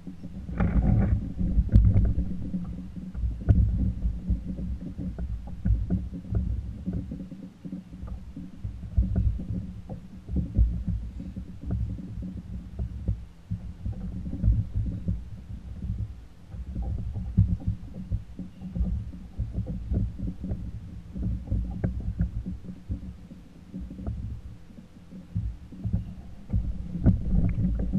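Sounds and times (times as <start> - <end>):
water thumping against kayak hull: 0.0 - 27.9.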